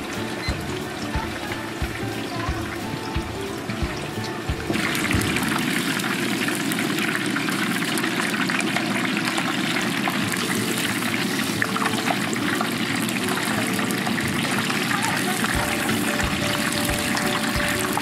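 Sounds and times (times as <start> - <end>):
chicken deep-frying in oil: 0.0 - 18.0.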